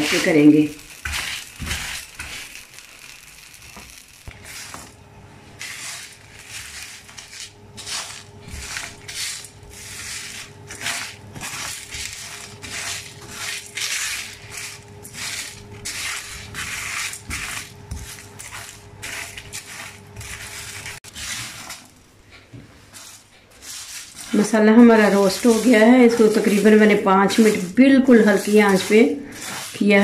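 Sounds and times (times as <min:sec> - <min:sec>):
spices scraping in a dry pan: 0:00.0 - 0:30.0.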